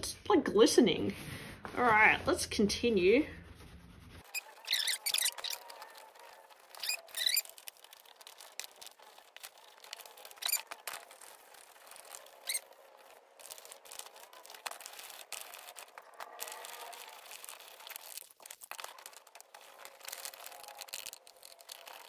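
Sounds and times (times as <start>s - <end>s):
soft rubbing and rustling: 0.9s - 22.0s
wipe squeaking on leather: 3.4s - 22.0s.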